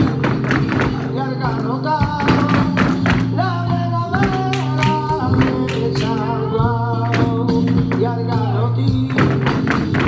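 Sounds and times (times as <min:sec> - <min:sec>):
strummed flamenco guitar: 0:00.0 - 0:10.0.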